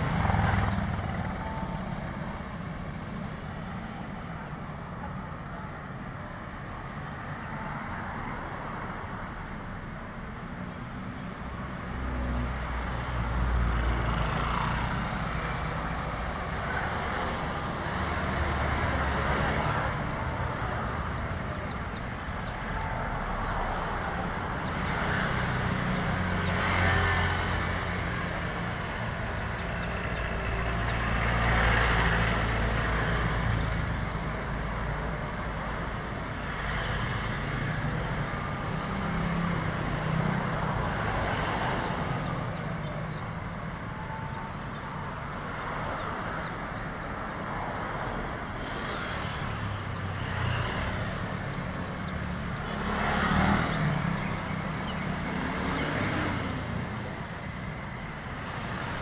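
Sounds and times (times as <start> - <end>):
bird twittering chirps: 9.0 - 59.0.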